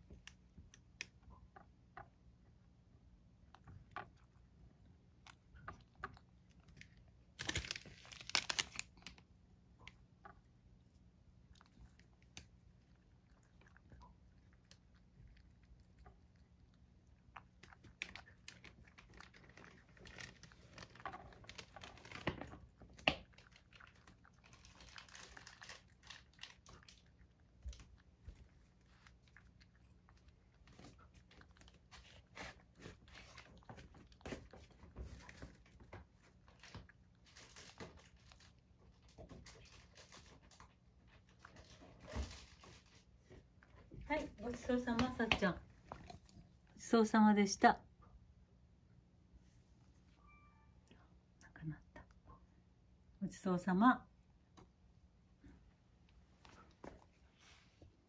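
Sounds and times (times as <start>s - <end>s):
cat crunching and licking food: 0.0s - 46.8s.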